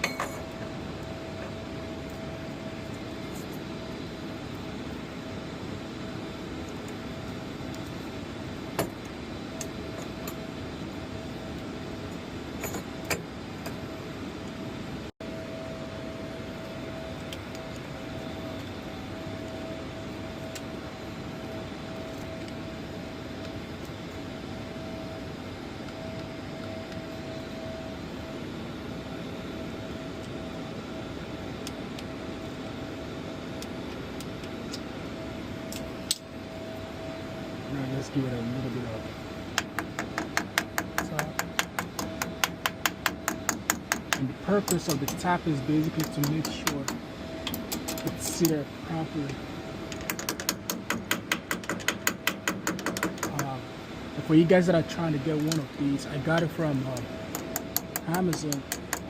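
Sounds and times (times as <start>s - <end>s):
machine drone with whine: 0.0s - 59.0s.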